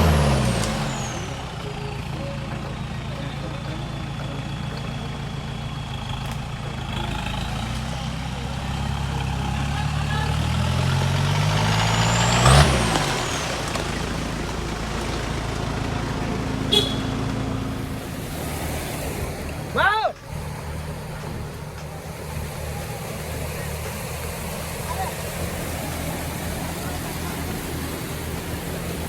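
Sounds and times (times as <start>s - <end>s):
off-road vehicle engine passing: 0.0s - 29.0s.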